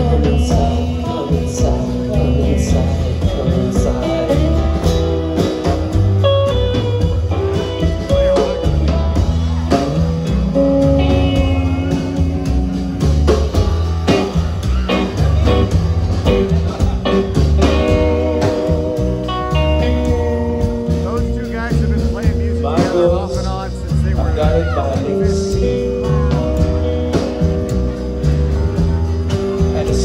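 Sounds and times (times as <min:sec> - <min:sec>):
double bass: 0:00.0 - 0:30.0
drum kit: 0:00.0 - 0:30.0
guitar playing melody: 0:00.0 - 0:30.0.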